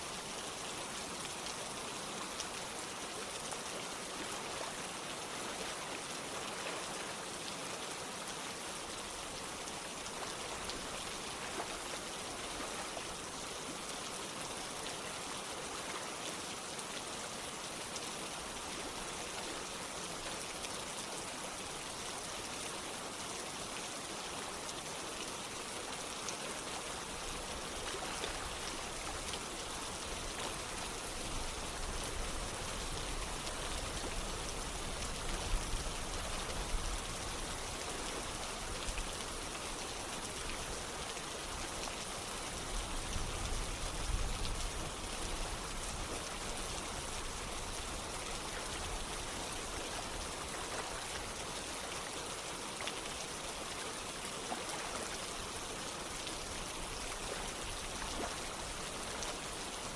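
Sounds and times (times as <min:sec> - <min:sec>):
rain falling: 0:00.0 - 0:59.9
running water: 0:00.0 - 0:59.9.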